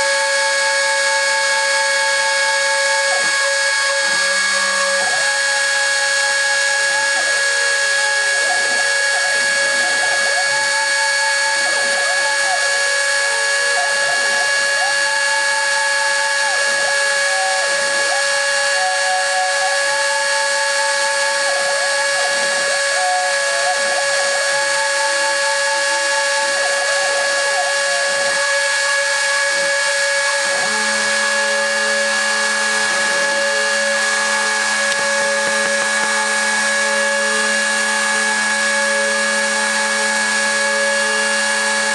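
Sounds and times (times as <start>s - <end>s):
milling machine motor whine: 0.0s - 41.9s
drive motors stepping pitches: 1.0s - 41.6s.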